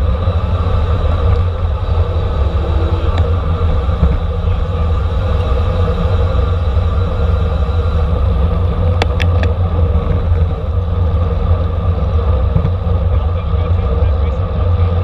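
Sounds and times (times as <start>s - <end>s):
road noise: 0.0s - 15.0s
wind rumble on microphone: 0.0s - 15.0s.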